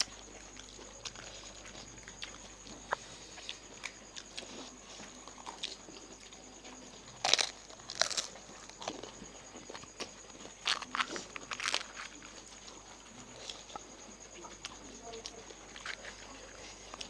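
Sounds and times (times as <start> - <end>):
crunching and chewing crisp shells: 0.0 - 17.0.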